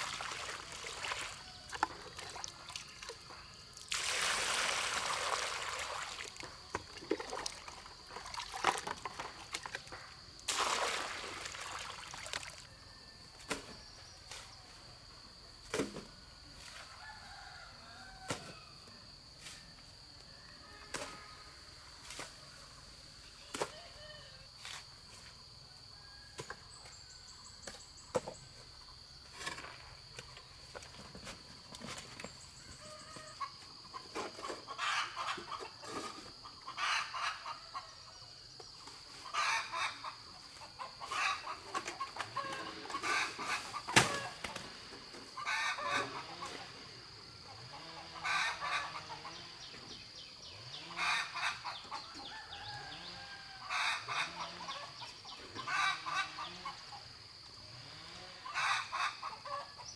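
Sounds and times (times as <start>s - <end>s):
insect drone: 0.0s - 27.6s, 36.1s - 59.9s.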